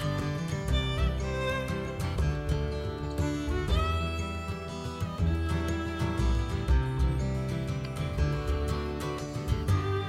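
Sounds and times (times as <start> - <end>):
instrumental music with guitar and bass: 0.0 - 10.0.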